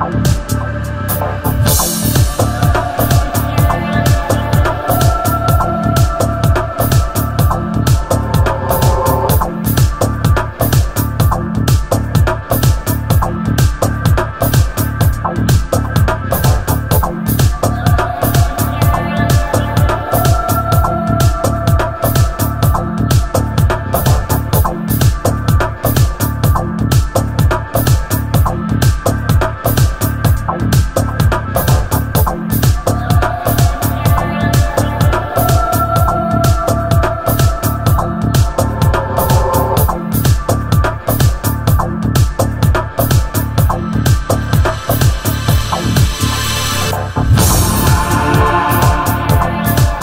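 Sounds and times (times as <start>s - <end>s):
electronic dance music: 0.0s - 26.7s, 31.6s - 50.0s
fast kick-drum beat: 1.6s - 46.2s, 47.2s - 50.0s.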